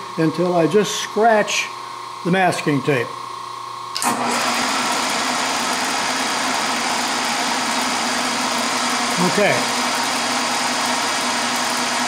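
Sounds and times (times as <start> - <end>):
milling machine spindle humming: 0.0 - 12.0.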